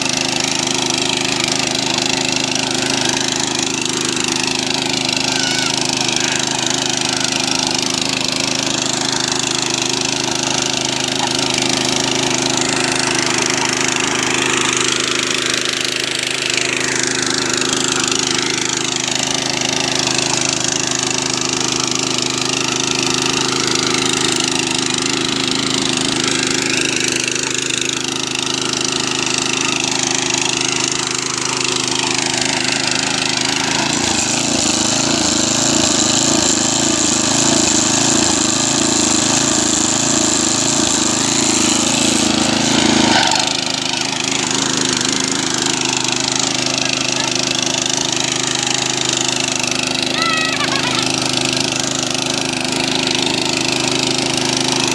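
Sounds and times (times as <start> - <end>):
rotary tines churning soil: 0.0 - 54.9
tiller engine running under load: 0.0 - 54.9.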